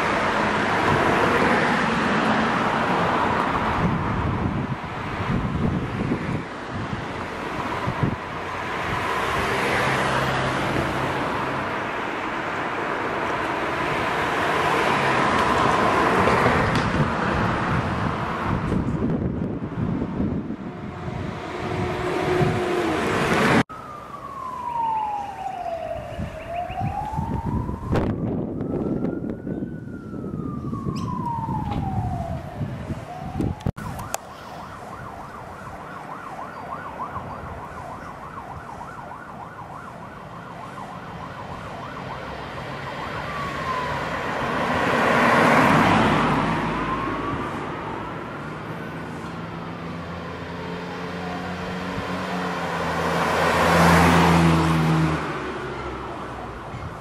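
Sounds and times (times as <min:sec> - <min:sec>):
car passing close by: 0:00.0 - 0:26.0, 0:34.4 - 0:56.6
emergency siren wailing: 0:00.0 - 0:57.0
street traffic noise: 0:00.0 - 0:57.0.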